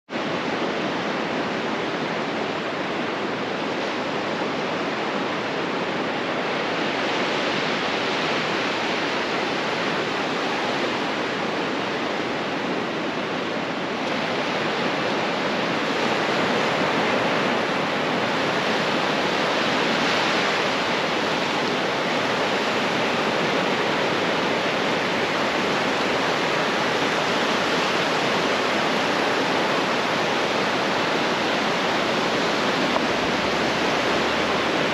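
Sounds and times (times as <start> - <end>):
waves breaking on a beach: 0.1 - 34.9.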